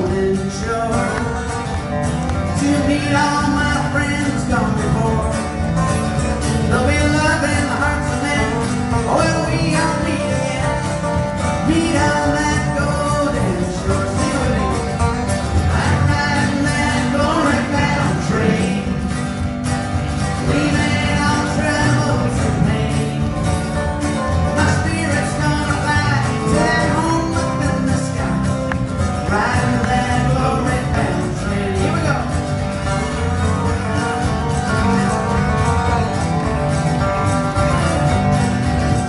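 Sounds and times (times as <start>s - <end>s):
man singing: 0.0s - 1.8s, 2.4s - 6.0s, 6.6s - 19.5s, 20.3s - 36.1s
strummed acoustic guitar: 0.0s - 39.0s.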